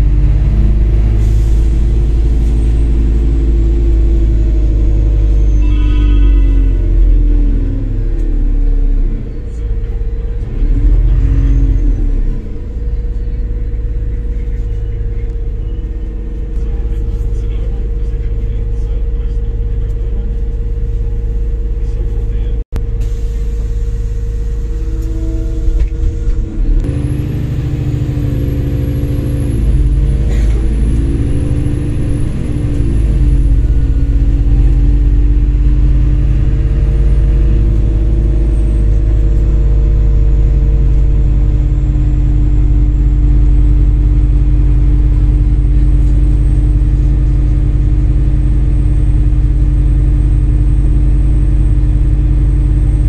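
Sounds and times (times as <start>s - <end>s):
bus engine rumbling: 0.0s - 53.0s.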